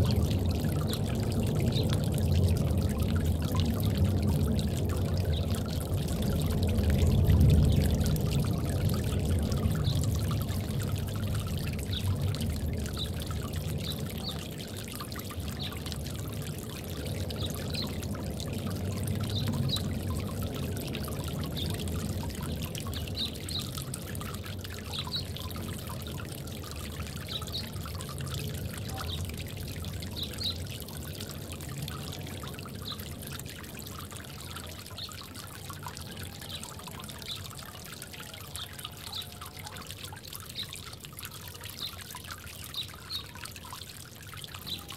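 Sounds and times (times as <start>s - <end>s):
water trickling into bird bath: 0.0s - 44.9s.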